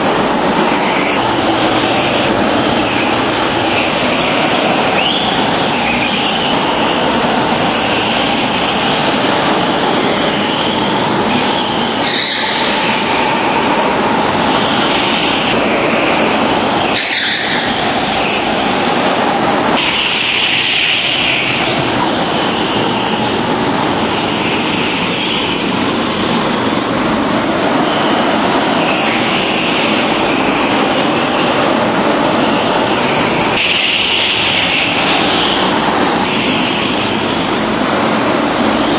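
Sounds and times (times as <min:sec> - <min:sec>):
go-kart engines racing: 0:00.0 - 0:38.9.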